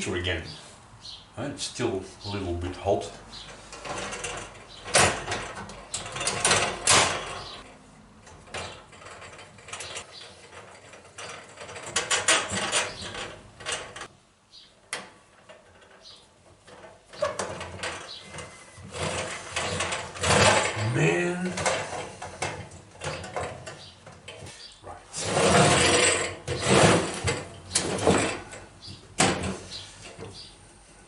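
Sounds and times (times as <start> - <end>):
metal parts clicking and clanking: 3.3 - 14.1, 14.8 - 30.5.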